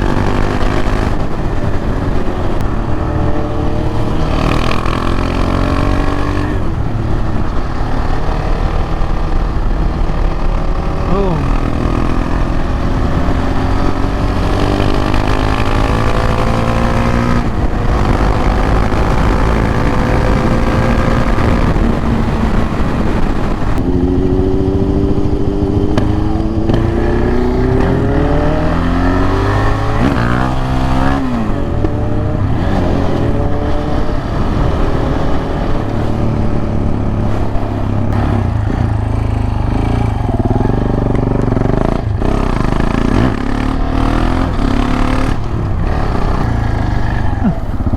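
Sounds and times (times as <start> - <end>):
motorcycle engine accelerating: 0.0 - 47.9
wind rush: 0.0 - 47.9.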